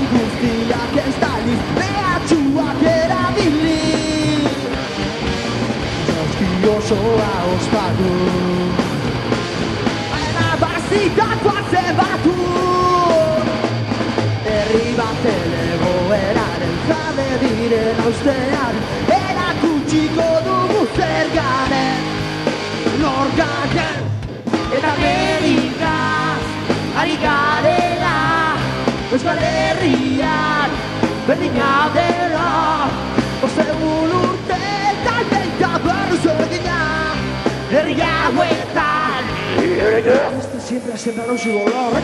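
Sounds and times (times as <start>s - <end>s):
person singing lead vocal: 0.0s - 4.8s, 6.0s - 9.1s, 10.1s - 13.7s, 14.3s - 22.2s, 22.8s - 42.0s
punk rock band playing: 0.0s - 42.0s.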